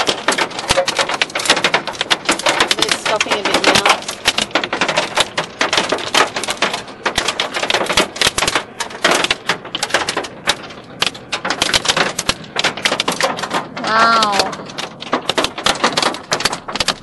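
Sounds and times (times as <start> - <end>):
hailstones clattering on car: 0.0 - 17.0.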